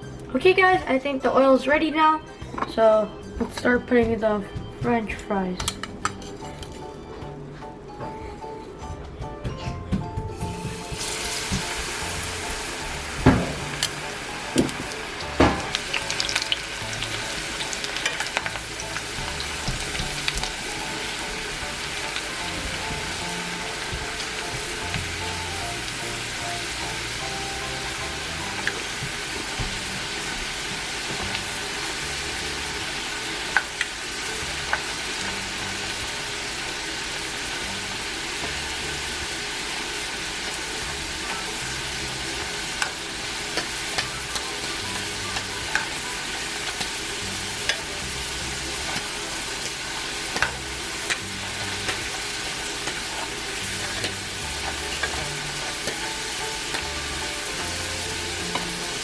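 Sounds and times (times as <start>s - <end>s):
fries sizzling in oil: 10.4s - 59.0s
oil popping and crackling: 10.4s - 59.0s.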